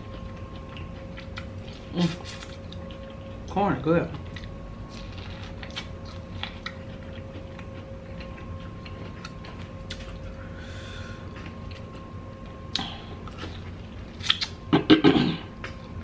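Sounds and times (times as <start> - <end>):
faint steady hum: 0.0 - 16.0
person chewing corn: 0.0 - 16.0.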